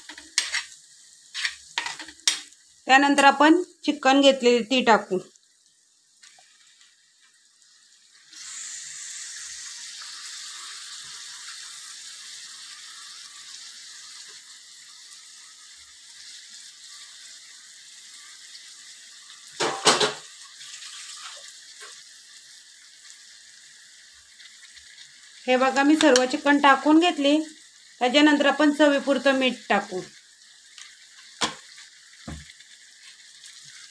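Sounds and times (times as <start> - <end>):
chicken sizzling in a pan: 0.0 - 33.9.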